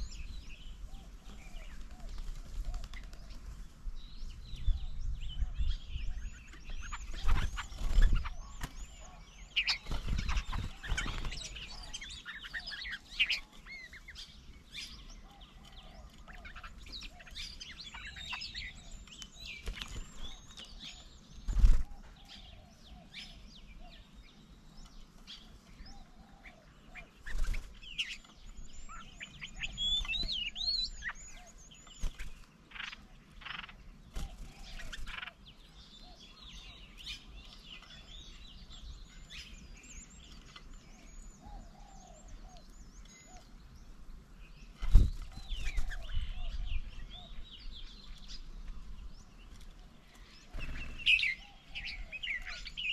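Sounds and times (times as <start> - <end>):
birds chirping and whistling: 0.0 - 52.9.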